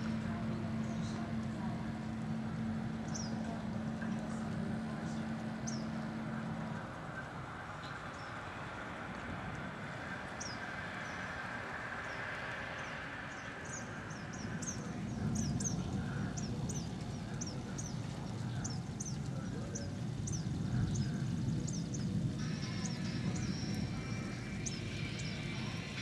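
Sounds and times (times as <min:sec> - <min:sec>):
low rumble: 0:00.0 - 0:26.0
small birds chirping: 0:00.0 - 0:26.0
steady background rush: 0:00.0 - 0:26.0.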